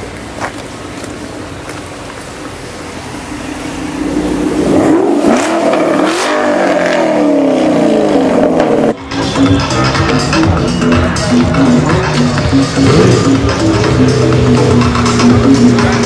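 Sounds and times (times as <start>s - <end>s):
car engine accelerating hard: 0.6s - 16.0s.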